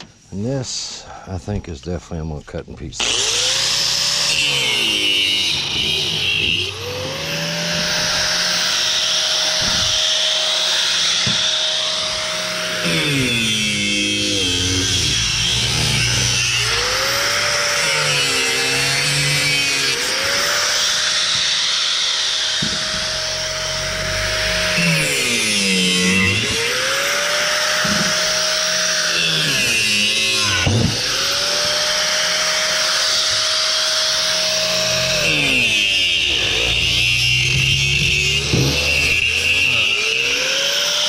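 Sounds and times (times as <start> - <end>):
power saw motor whining: 3.0 - 41.0
saw cutting metal hiss: 3.0 - 41.0.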